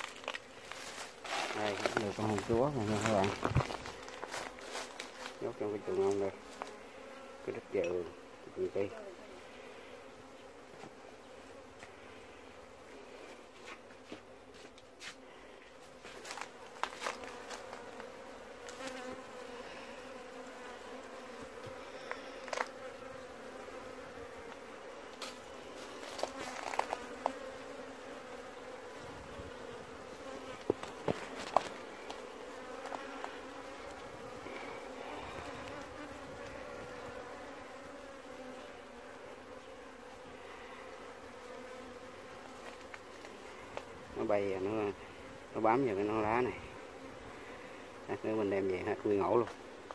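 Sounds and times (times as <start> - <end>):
bee swarm buzzing: 0.0 - 49.9.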